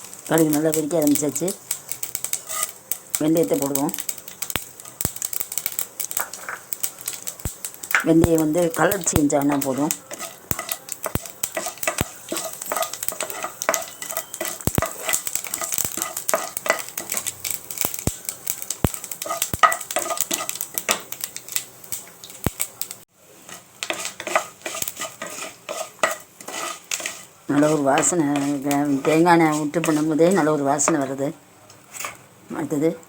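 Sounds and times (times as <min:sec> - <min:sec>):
spoon stirring against pan: 0:00.0 - 0:32.3
seeds popping and sizzling in oil: 0:00.0 - 0:33.0.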